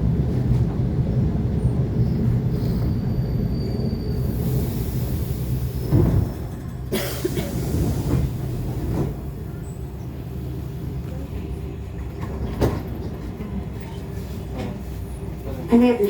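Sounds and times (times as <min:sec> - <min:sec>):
train equipment hum: 0:00.0 - 0:16.0.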